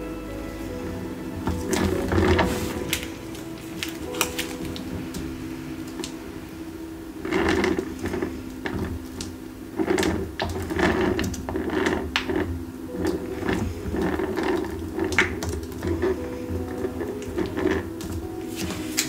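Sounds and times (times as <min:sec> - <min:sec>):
piping bag rustling and scraping: 0:00.6 - 0:06.2, 0:07.2 - 0:19.0.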